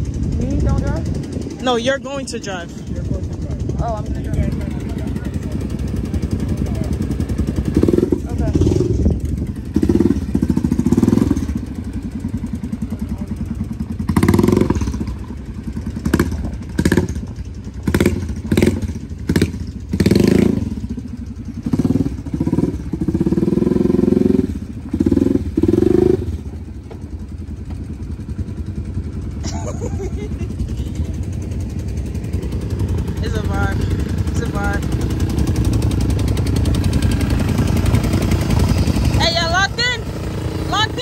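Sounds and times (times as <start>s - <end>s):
quad bike engines revving: 0.0s - 41.0s.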